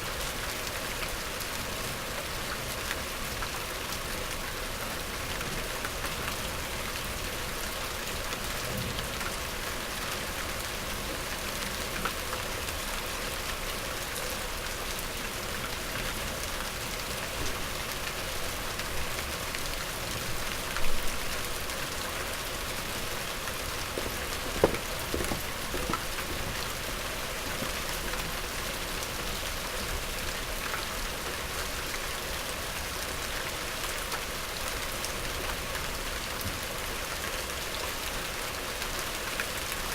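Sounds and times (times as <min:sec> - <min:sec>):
rain falling steadily: 0:00.0 - 0:39.9
close raindrops striking: 0:00.1 - 0:39.9.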